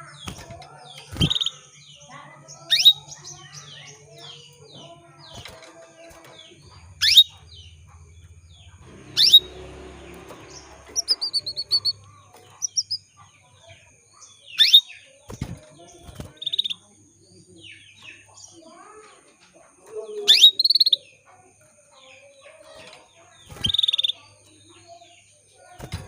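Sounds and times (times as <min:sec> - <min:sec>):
canary calling: 0:00.0 - 0:15.3, 0:16.1 - 0:17.0, 0:17.6 - 0:21.4, 0:22.1 - 0:26.0
faint chirps: 0:00.0 - 0:26.0.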